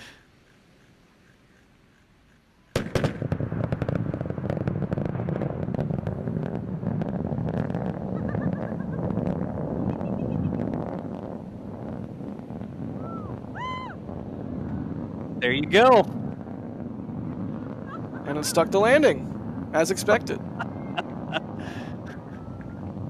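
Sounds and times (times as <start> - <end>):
rocket engine crackling rumble: 0.0 - 23.0
sonic boom crack: 2.7 - 23.0.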